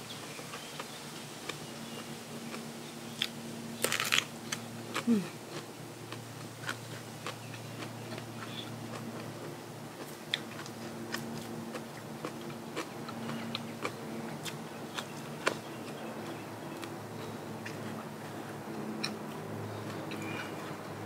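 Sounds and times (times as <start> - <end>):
person chewing crunchy food: 0.2 - 20.9.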